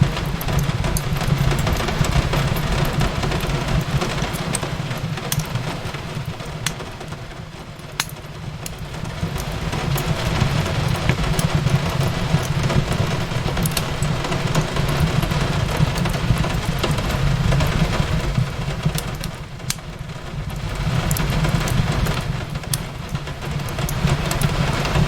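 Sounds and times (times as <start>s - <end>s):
rain falling: 0.0s - 25.0s
wood fire crackling: 0.0s - 25.0s.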